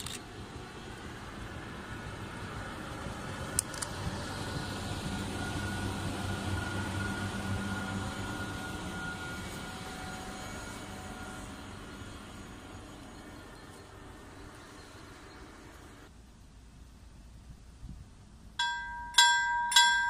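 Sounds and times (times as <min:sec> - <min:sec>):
electric locomotive passing: 0:00.0 - 0:16.1.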